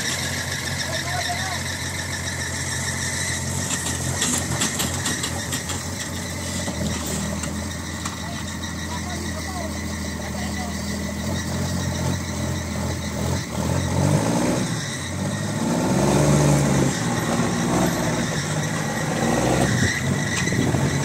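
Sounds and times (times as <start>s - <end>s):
truck engine revving under load: 0.0s - 21.0s.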